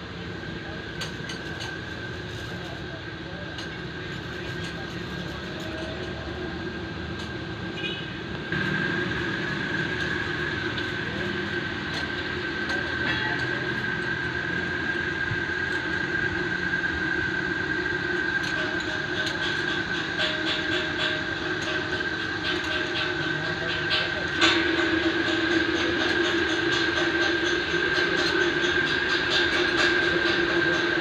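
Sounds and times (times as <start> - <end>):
machine humming with high whine: 0.0 - 31.0.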